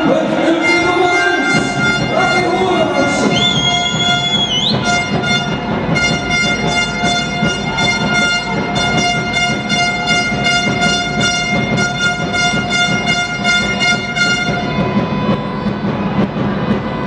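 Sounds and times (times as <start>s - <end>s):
hall noise: 0.0s - 17.0s
pulsing horn note: 0.3s - 15.9s.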